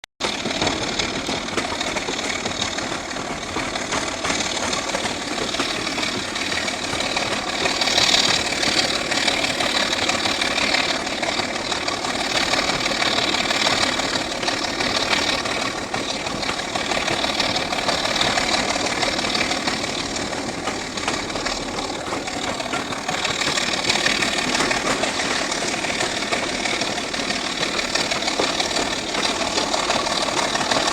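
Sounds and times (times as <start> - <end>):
diesel locomotive engine under load: 0.0 - 30.9.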